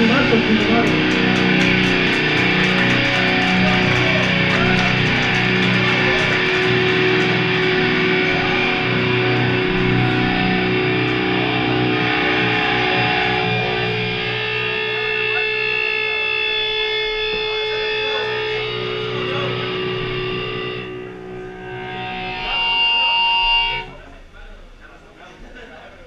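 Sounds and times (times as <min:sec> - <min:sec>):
distorted electric guitars: 0:00.0 - 0:24.8.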